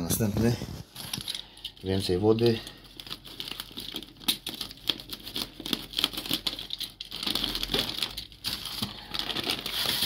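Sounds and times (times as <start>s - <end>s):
plastic bag and foil crinkling: 0.0s - 10.0s.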